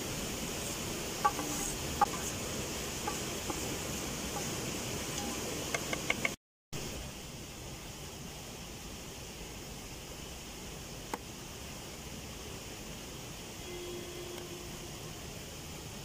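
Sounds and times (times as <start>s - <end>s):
flowing river: 0.0s - 16.0s.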